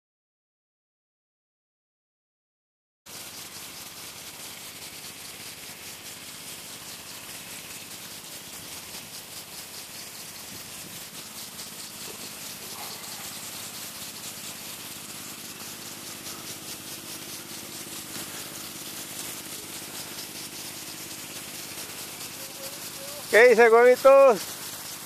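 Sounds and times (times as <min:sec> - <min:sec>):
sprinklers spraying water: 0:03.1 - 0:25.0
steady low hum: 0:04.8 - 0:25.0.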